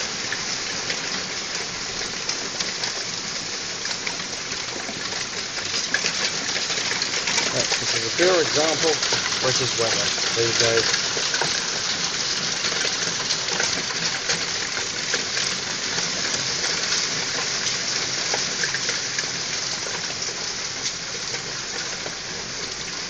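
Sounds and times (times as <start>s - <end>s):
hailstones ticking: 0.0s - 23.0s
heavy rain: 0.0s - 23.0s.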